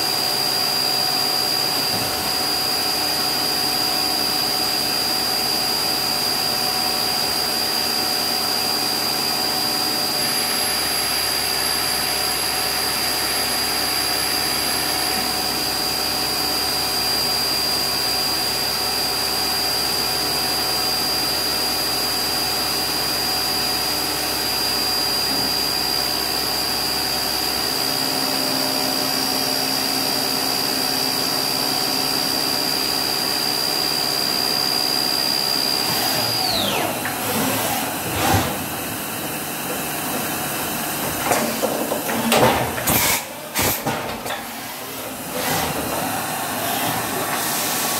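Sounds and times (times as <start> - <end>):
machine spindle high-pitched whine: 0.0 - 47.9.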